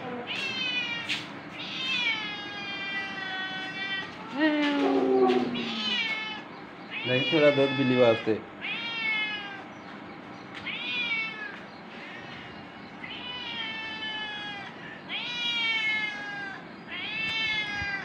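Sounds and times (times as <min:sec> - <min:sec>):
cat meowing: 0:00.3 - 0:09.7, 0:10.6 - 0:11.6, 0:13.0 - 0:18.0.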